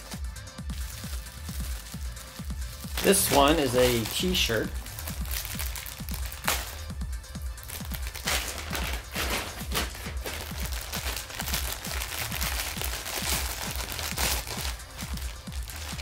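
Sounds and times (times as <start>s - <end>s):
plastic bag crinkling: 0.7s - 6.9s, 7.6s - 16.0s.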